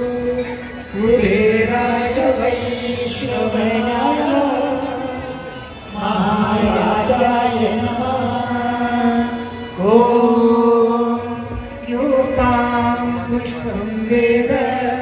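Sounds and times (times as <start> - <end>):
devotional chant singing: 0.0 - 15.0.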